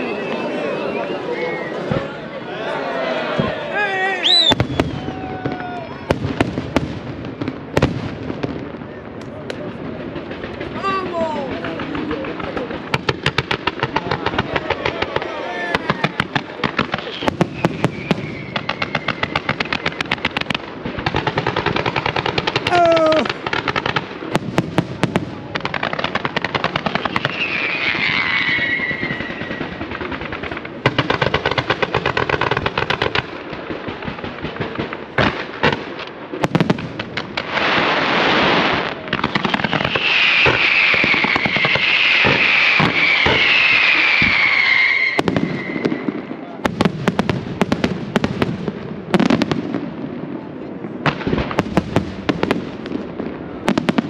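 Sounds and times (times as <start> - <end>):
fireworks crackling: 0.0 - 54.0
whistling fireworks: 0.0 - 54.0
fireworks launches and bangs: 4.3 - 54.0.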